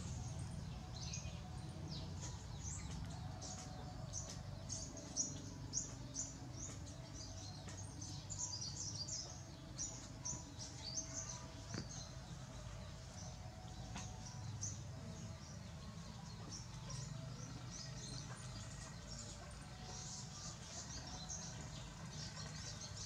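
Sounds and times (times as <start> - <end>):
small birds chirping: 0.0 - 23.0
steady low hum: 0.0 - 23.0.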